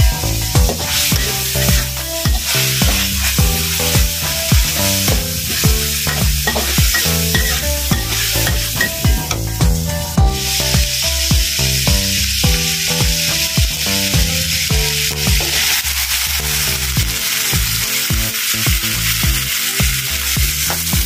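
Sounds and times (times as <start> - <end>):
background music with steady beat: 0.0 - 21.0
meat sizzling in oil: 0.0 - 21.0
metal spatula scraping wok: 0.1 - 11.9, 12.7 - 20.9.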